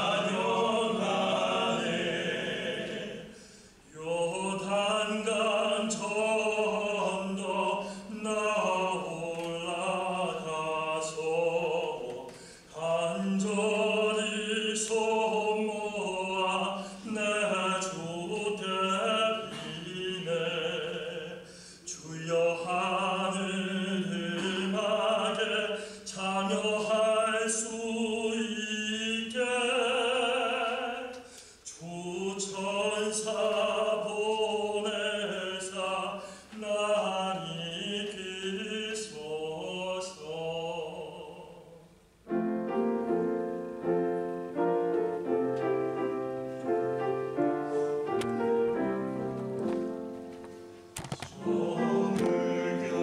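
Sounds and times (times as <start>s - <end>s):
male vocal quartet singing: 0.0s - 41.8s, 51.2s - 53.0s.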